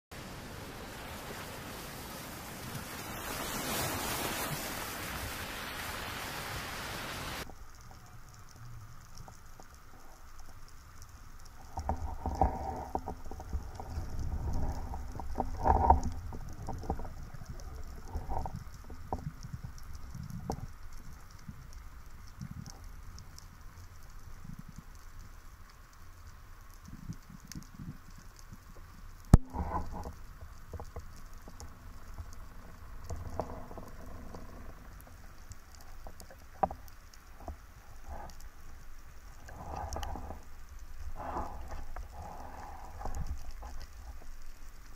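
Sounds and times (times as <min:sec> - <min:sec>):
faint underwater crackling: 0:00.1 - 0:44.9
steady rushing hiss: 0:00.1 - 0:44.9
rumbles and knocks underwater: 0:07.4 - 0:44.9.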